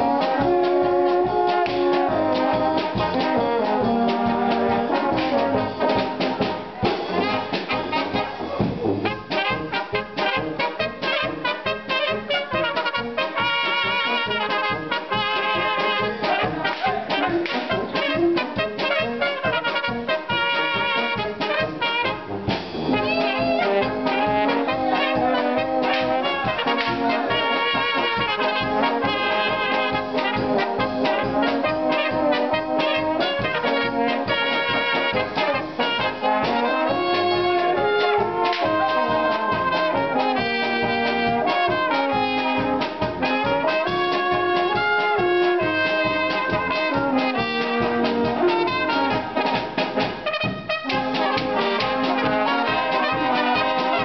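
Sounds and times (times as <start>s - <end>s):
drums: 0.0s - 54.0s
trumpets playing melody: 0.0s - 54.0s
tubas and baritone horns: 0.0s - 54.0s.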